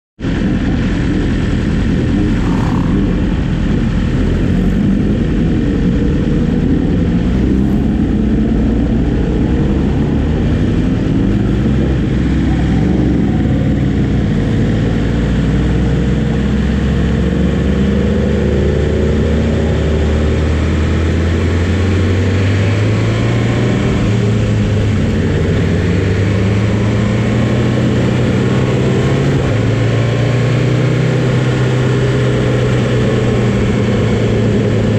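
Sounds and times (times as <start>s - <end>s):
motorcycle engines revving: 0.2s - 34.9s.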